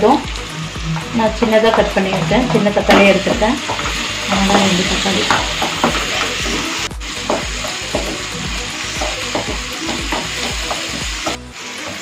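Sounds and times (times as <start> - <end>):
onions frying in oil sizzling: 0.0 - 12.0.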